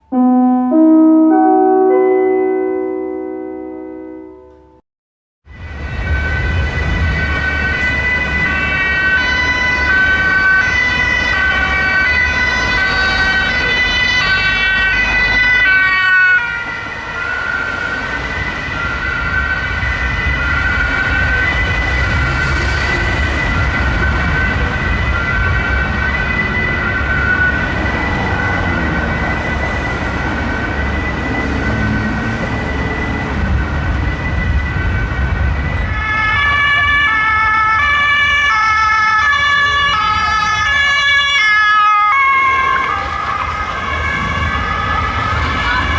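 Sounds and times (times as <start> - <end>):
engine and road noise: 5.5 - 45.9
two-tone police sirens: 5.5 - 45.9.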